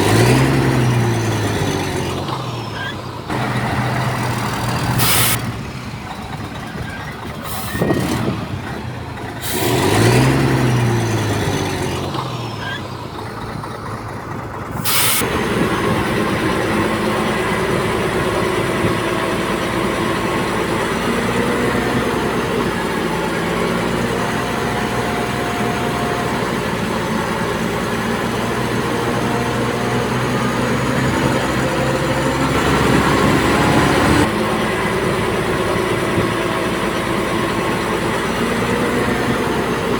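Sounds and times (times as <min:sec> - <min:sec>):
engine revving: 0:00.0 - 0:39.9
heavy diesel engines working: 0:00.0 - 0:39.9.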